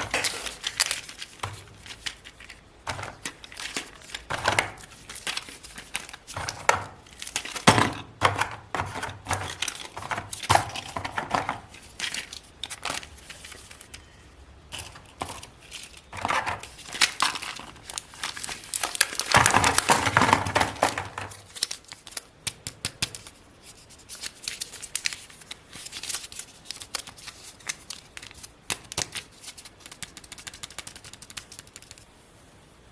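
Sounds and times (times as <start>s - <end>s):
plastic wrappers crinkling and tearing: 0.0s - 32.1s.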